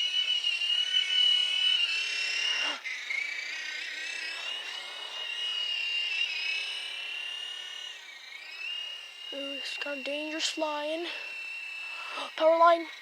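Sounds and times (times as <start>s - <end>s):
toy helicopter motor whining: 0.0s - 13.0s.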